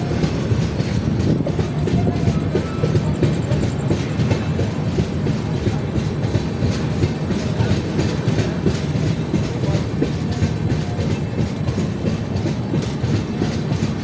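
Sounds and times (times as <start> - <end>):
train rumbling: 0.0 - 14.0
wheels clacking over rail joints: 0.0 - 14.0.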